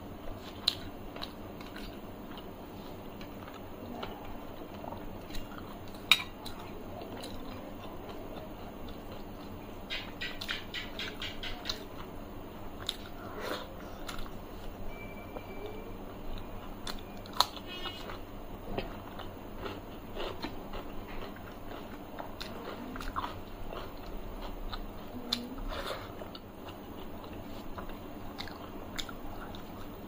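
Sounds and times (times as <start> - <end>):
person chewing and crunching food: 0.2 - 14.8, 15.4 - 30.0.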